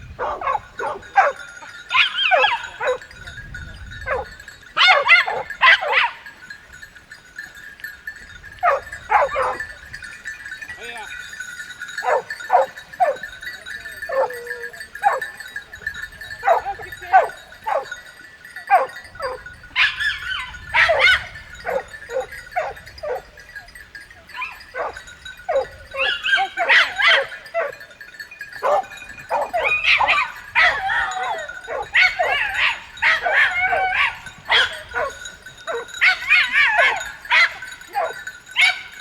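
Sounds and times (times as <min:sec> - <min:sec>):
dogs barking and baying: 0:00.0 - 0:06.5, 0:08.5 - 0:39.0.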